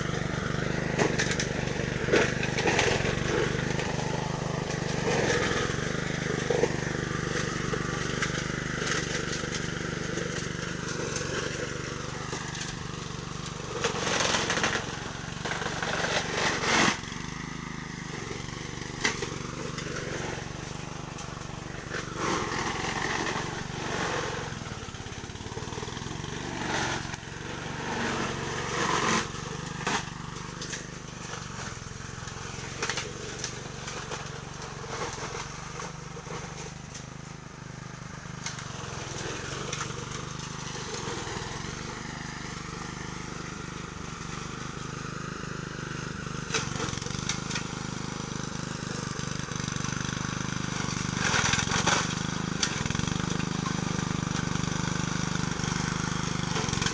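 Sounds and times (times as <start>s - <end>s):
lawn mower engine running: 0.0s - 56.9s.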